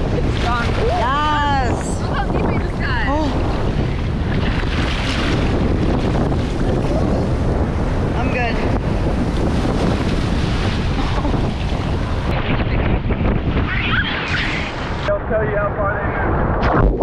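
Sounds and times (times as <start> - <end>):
surf breaking: 0.0 - 17.0
wind buffeting microphone: 0.0 - 17.0.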